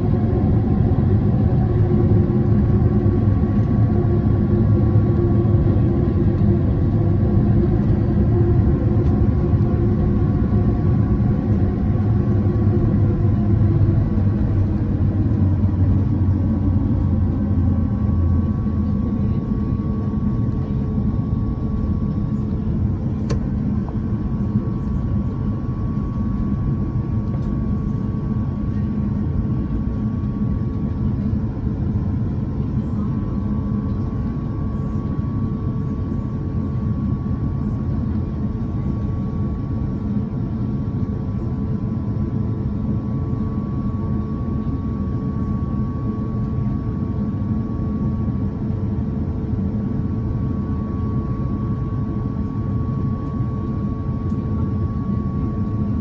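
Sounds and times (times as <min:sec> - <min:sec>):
jet engine drone in cabin: 0:00.0 - 0:56.0
steady hum: 0:00.0 - 0:56.0.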